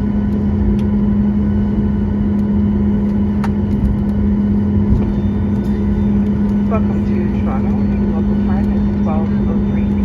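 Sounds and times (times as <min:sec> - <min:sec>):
airplane cabin engine drone: 0:00.0 - 0:10.0.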